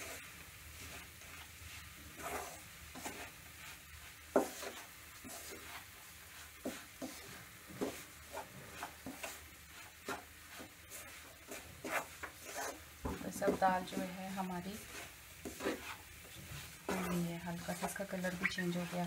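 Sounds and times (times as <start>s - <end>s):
wooden spatula scraping a pan: 0.0s - 19.0s.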